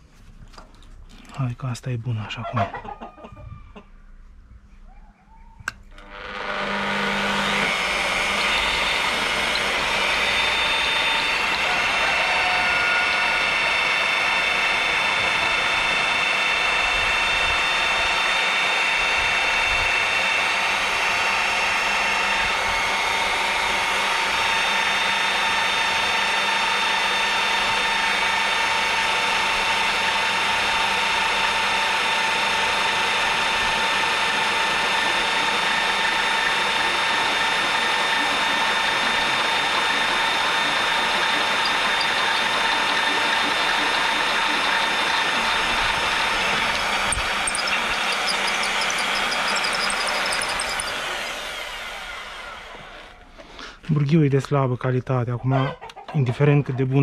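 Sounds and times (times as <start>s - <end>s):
drill drilling into steel: 5.9s - 53.2s.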